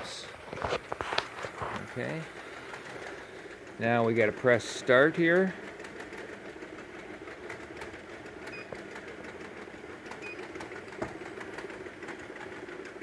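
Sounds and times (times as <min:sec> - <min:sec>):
bottle-capping machine humming: 0:00.0 - 0:13.0.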